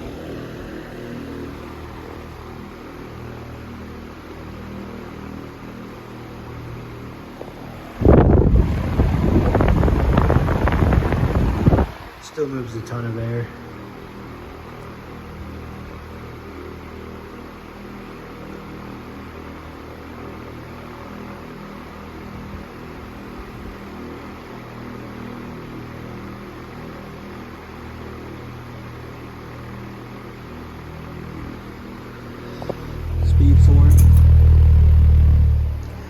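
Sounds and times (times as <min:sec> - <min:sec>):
table fan running: 0:00.0 - 0:36.0.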